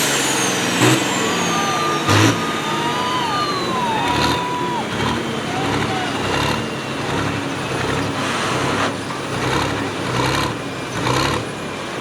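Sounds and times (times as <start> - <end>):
vehicle engine pulsing: 0.0 - 12.0.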